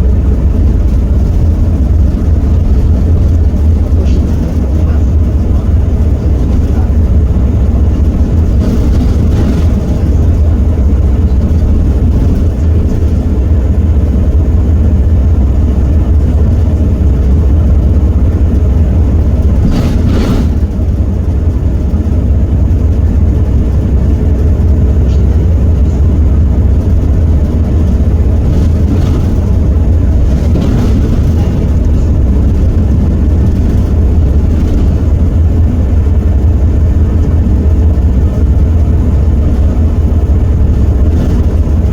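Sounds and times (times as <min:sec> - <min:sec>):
bus diesel engine rumble: 0:00.0 - 0:41.9.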